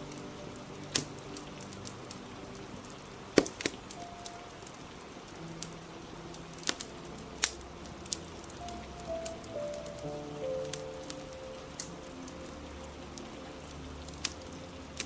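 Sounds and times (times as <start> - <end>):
rain hiss: 0.0 - 15.0
soft slow background music: 0.0 - 15.0
wood fire crackling: 0.0 - 15.0.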